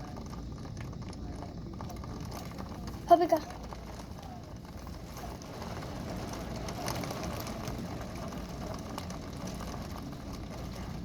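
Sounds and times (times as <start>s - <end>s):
heavy rain: 0.0s - 11.0s
storm wind: 0.0s - 11.0s.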